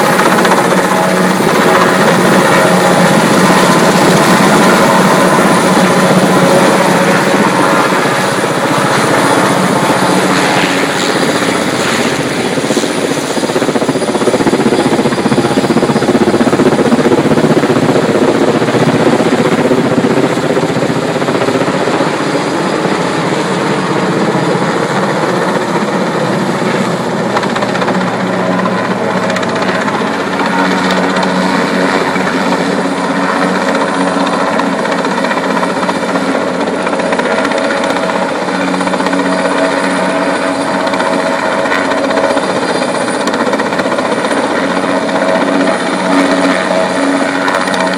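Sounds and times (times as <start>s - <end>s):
helicopter rotor chopping: 0.0s - 47.9s.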